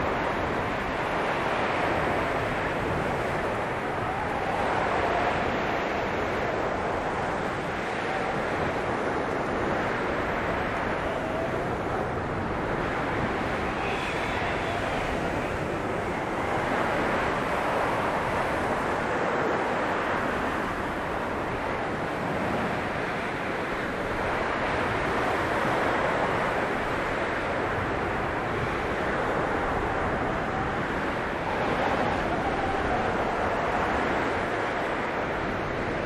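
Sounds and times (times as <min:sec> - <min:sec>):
blizzard wind blowing: 0:00.0 - 0:36.0.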